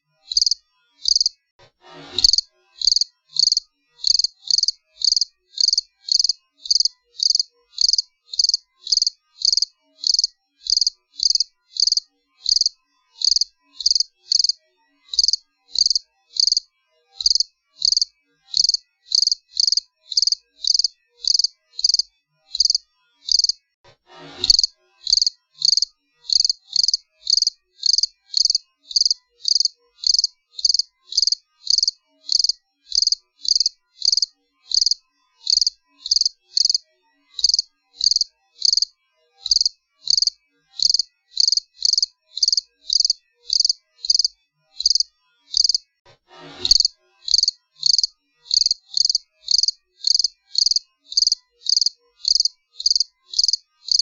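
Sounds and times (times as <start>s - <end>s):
cricket chirping: 0.3s - 1.3s, 2.2s - 16.6s, 17.2s - 23.6s, 24.5s - 36.8s, 37.4s - 38.9s, 39.5s - 45.8s, 46.7s - 54.0s.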